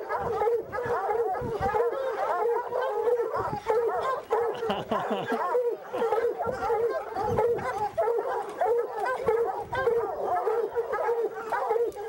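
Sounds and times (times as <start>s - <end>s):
hounds barking and baying: 0.0s - 12.0s.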